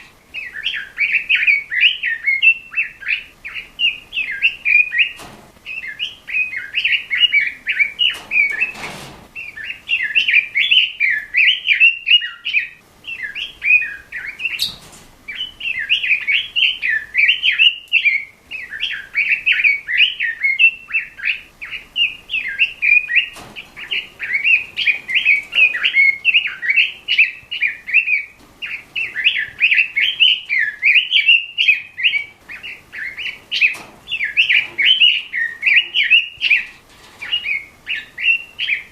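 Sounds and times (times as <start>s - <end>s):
bird warbling song: 0.0s - 38.9s.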